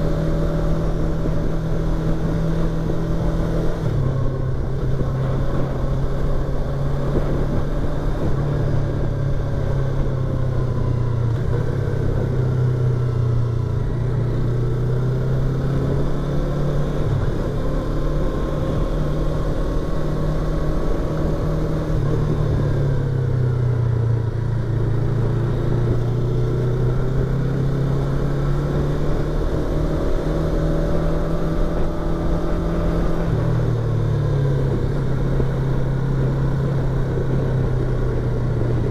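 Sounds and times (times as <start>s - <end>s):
motorcycle engine accelerating: 0.0s - 38.9s
wind noise in helmet: 0.0s - 38.9s.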